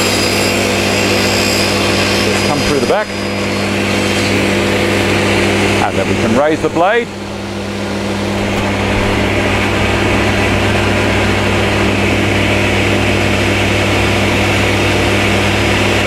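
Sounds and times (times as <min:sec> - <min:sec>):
dust extractor running: 0:00.0 - 0:16.0
table saw running: 0:00.0 - 0:16.0.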